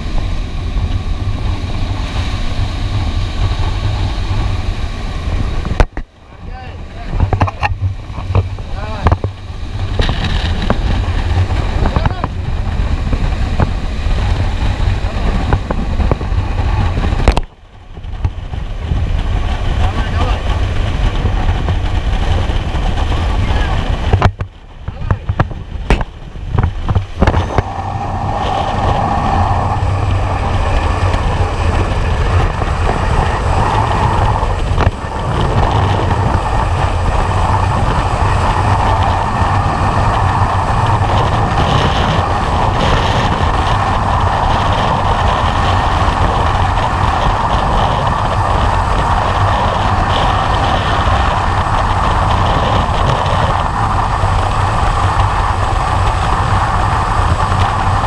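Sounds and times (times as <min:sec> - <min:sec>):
wind rushing over camera: 0:00.0 - 0:58.0.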